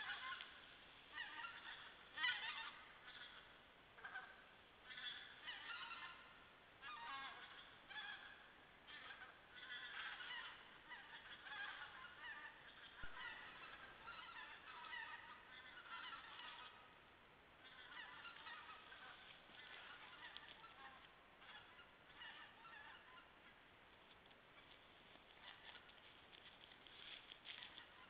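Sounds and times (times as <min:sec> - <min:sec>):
geese honking: 0:00.0 - 0:16.9, 0:17.6 - 0:23.4, 0:24.6 - 0:28.0.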